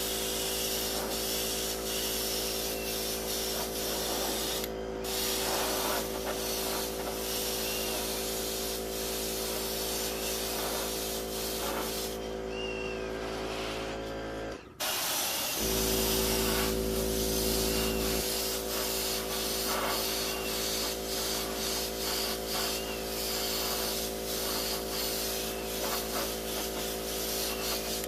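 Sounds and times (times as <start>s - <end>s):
airbrush spraying paint: 0.0s - 12.4s, 13.2s - 14.0s, 14.8s - 28.0s
machine hum: 0.0s - 14.7s, 15.6s - 27.4s.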